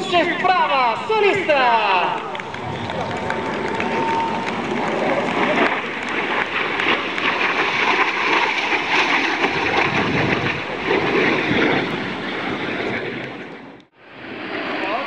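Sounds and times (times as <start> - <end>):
jet passing low: 0.0 - 15.0.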